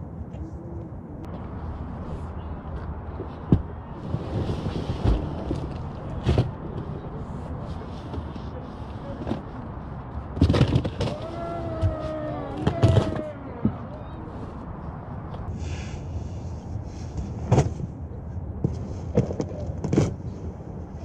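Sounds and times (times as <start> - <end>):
outdoor background: 0.0 - 21.0.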